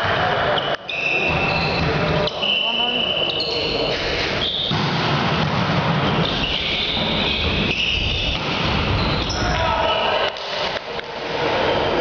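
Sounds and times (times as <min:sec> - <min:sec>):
sports hall noise: 0:00.0 - 0:12.0.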